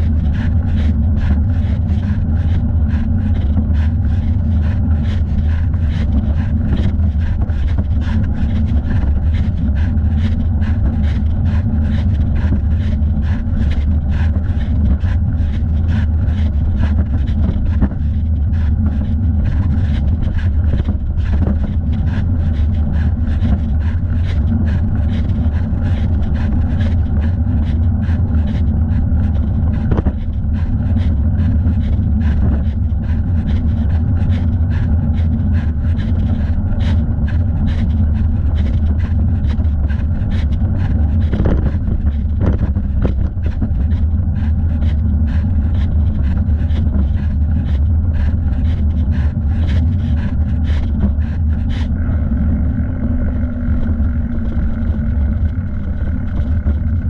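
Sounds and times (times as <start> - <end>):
bicycle rolling noise: 0.0 - 57.0
wind rumble on microphone: 0.0 - 57.0.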